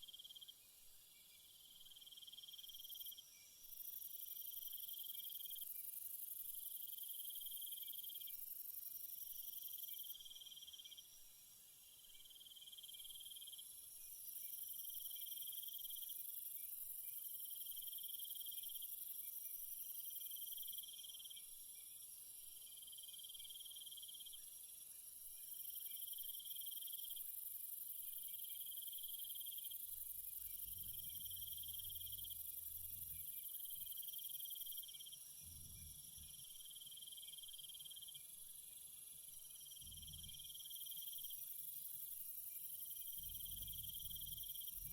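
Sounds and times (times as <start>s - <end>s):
insect chirping: 0.0s - 11.4s, 12.0s - 44.9s.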